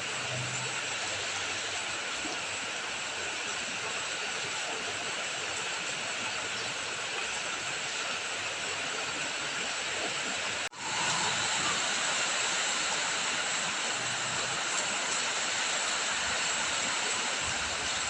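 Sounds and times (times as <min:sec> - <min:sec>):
running water: 0:00.0 - 0:18.0
steady rain: 0:00.0 - 0:18.0.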